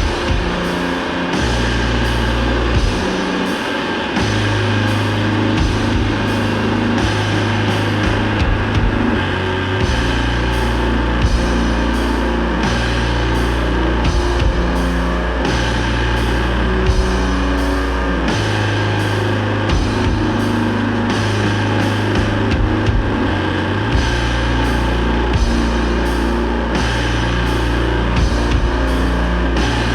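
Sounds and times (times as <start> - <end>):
drums and cymbals: 0.0 - 29.9
heavy metal instruments: 0.0 - 29.9.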